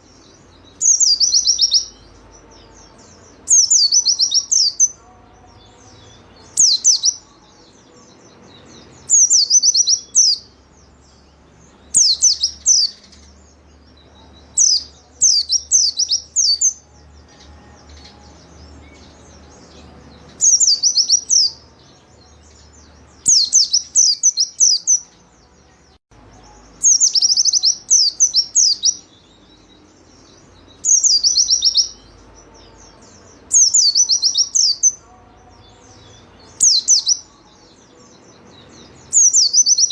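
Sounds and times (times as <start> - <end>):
white-eye bird singing: 0.0 - 39.9.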